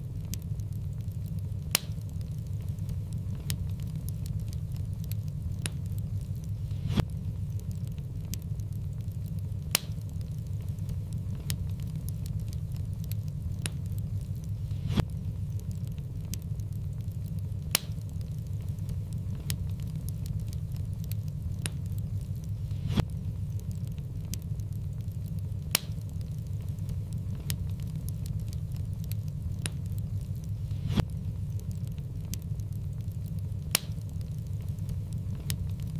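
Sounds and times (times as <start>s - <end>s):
low rumble: 0.0s - 35.9s
sharp pops of fire: 0.0s - 35.9s
wood fire crackling: 0.0s - 35.9s.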